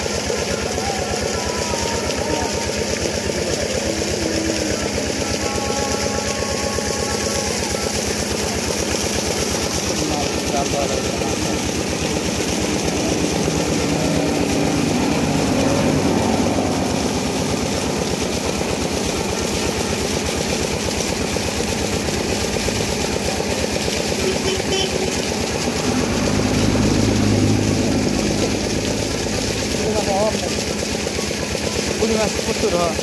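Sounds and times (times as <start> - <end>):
diesel pump engine running: 0.0 - 33.0
deep hum: 0.6 - 31.2.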